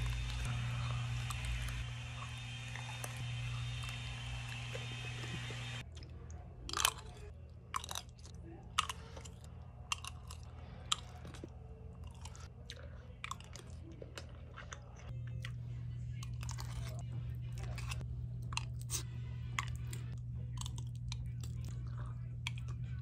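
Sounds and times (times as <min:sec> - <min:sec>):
low steady hum: 0:00.0 - 0:23.0
mouth chewing food: 0:00.0 - 0:23.0.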